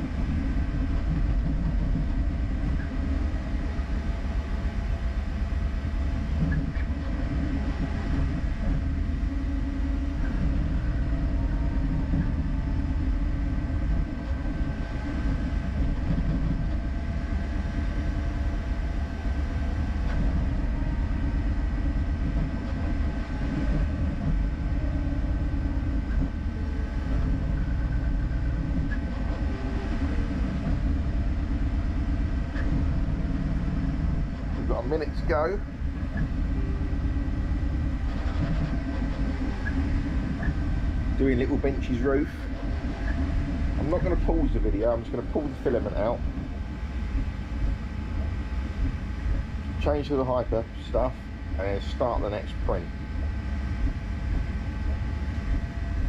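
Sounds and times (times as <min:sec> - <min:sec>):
motors and fans whining: 0:00.0 - 0:56.0.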